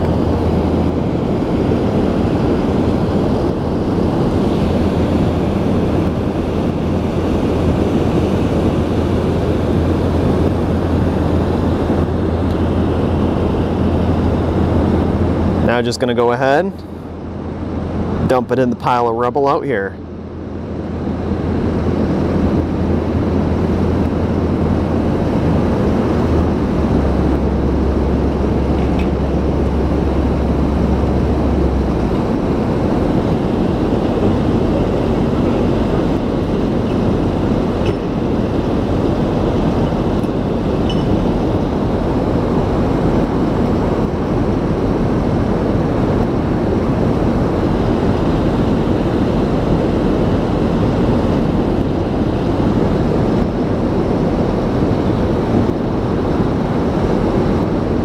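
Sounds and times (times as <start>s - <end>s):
diesel engine droning: 0.0s - 58.0s
steady rumbling noise: 0.0s - 58.0s.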